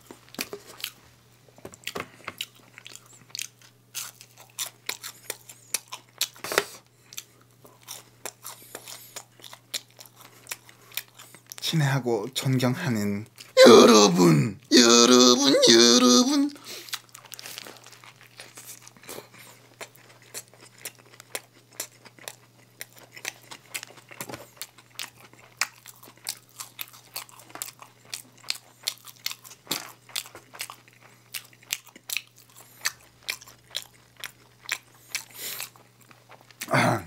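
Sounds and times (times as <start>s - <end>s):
crunchy food chewing: 0.0s - 11.7s, 16.5s - 36.8s.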